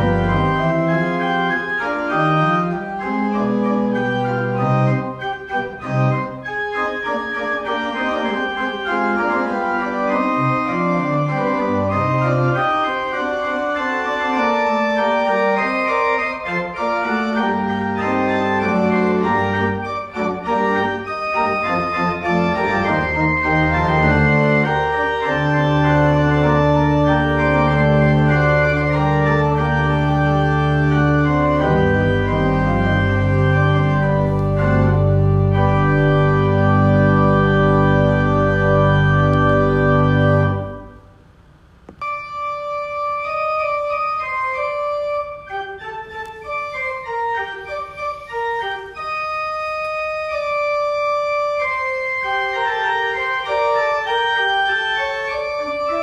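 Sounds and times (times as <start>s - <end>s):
deep organ bass notes: 0.0s - 41.1s, 50.2s - 56.0s
pipe organ chords: 0.0s - 56.0s.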